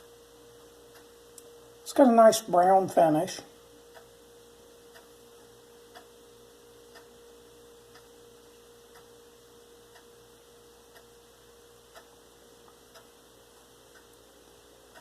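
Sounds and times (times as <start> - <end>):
steady hum: 0.0 - 15.0
faint ticking: 0.5 - 1.8, 3.6 - 15.0.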